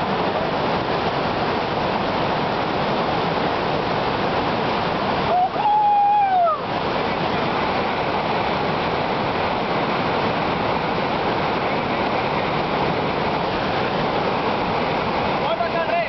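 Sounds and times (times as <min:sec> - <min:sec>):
river rapids roaring: 0:00.0 - 0:16.0.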